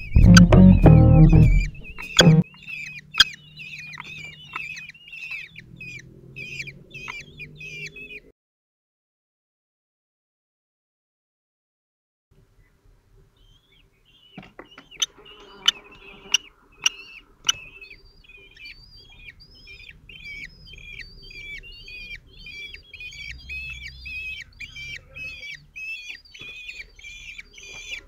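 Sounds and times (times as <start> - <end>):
nestlings begging calls: 0.0 - 8.3, 13.4 - 28.0.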